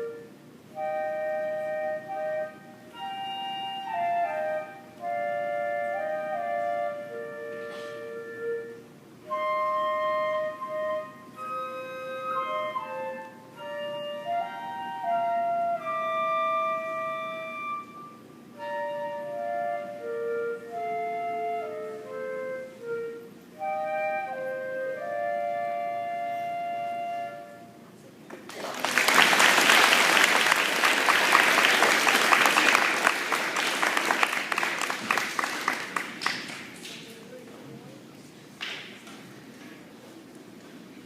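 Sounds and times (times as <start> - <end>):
woodwind duet playing: 0.0 - 28.0, 29.0 - 36.4.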